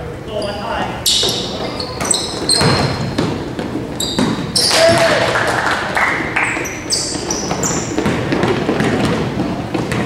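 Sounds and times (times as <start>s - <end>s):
echoing crowd noise: 0.0s - 10.0s
sneakers squeaking on gym court: 0.3s - 5.1s, 6.4s - 10.0s.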